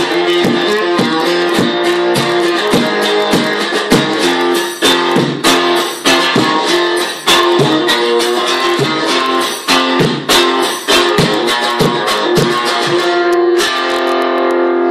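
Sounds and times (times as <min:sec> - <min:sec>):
acoustic guitar strummed fast: 0:00.0 - 0:14.9.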